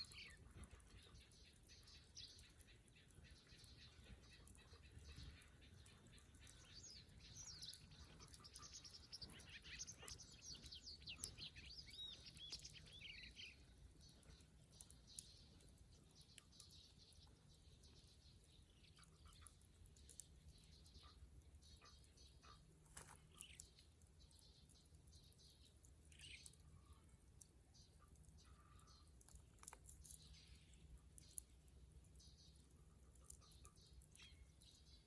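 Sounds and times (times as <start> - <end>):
faint birdsong chirping: 0.0 - 35.0
wood fire crackling: 0.0 - 35.0.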